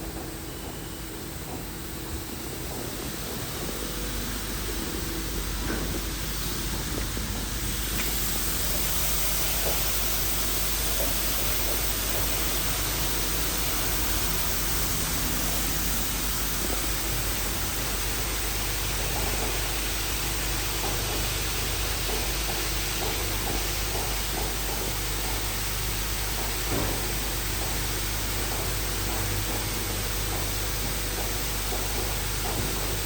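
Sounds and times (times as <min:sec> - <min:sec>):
car wash machine spraying: 0:02.3 - 0:33.0.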